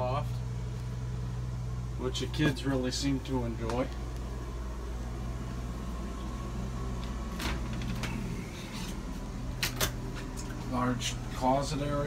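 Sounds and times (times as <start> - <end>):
low hum of running equipment: 0.0 - 12.0.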